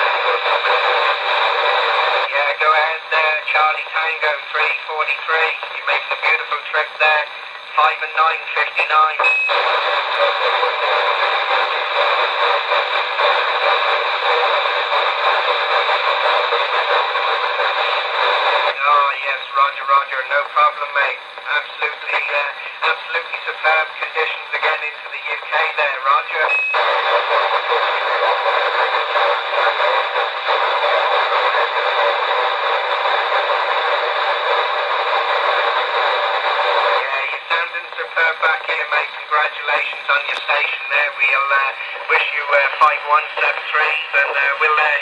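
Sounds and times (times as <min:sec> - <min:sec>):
radio static hiss: 0:00.0 - 0:45.0.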